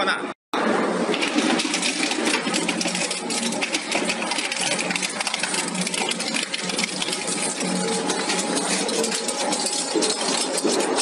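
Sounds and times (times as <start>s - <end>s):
steady motor hum: 0.6s - 11.0s
shredder metallic clatter: 1.0s - 11.0s.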